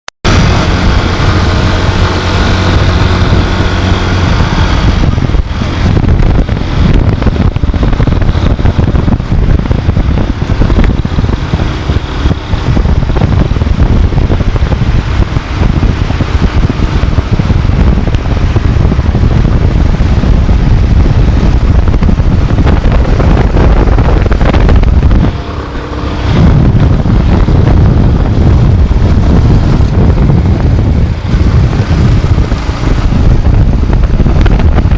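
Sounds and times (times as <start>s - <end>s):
wind noise on microphone: 0.2s - 34.9s
car engine hum: 0.3s - 34.9s.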